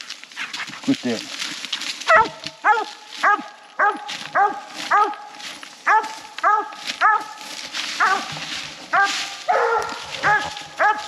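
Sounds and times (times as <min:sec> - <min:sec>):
rustle of brush: 0:00.0 - 0:11.0
hounds barking: 0:02.1 - 0:11.0.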